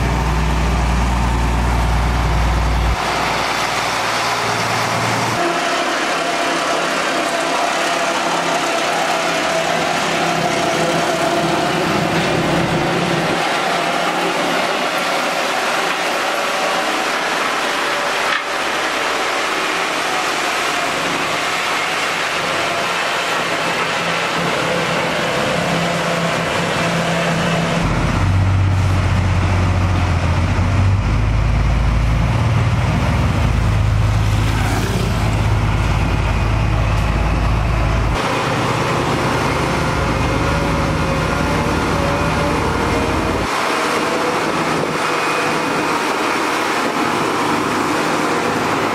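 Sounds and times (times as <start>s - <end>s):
heavy diesel machinery running: 0.0s - 48.9s.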